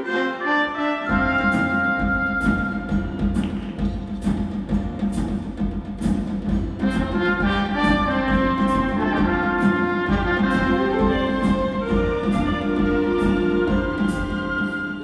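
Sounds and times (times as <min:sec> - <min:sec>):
orchestral ensemble playing: 0:00.0 - 0:15.0
drum strikes: 0:01.1 - 0:15.0.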